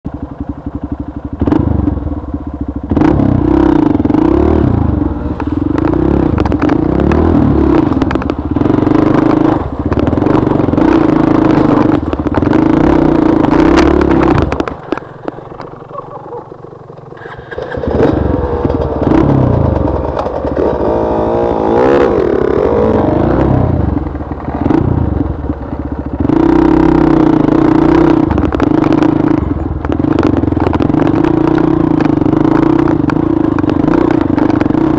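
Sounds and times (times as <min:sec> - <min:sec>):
dirt bike engine revving: 0:02.9 - 0:16.5, 0:17.2 - 0:34.9.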